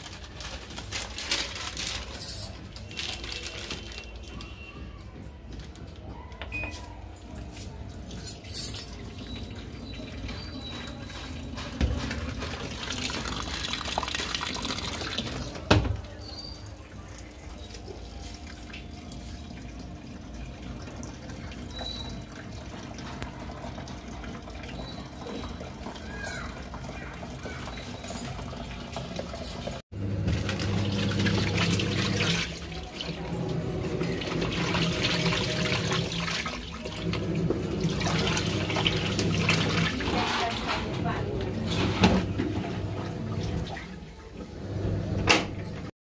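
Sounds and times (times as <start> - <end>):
water filling washing machine drum: 7.3 - 45.9.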